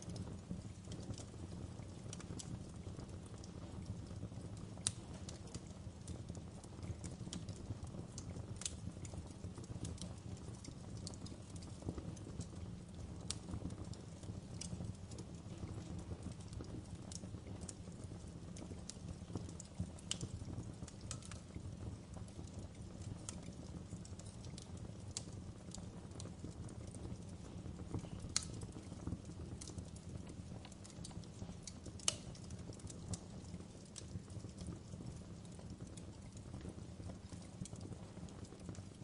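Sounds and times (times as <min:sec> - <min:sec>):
burning logs popping and snapping: 0:00.0 - 0:39.0
fire rumbling: 0:00.0 - 0:39.0.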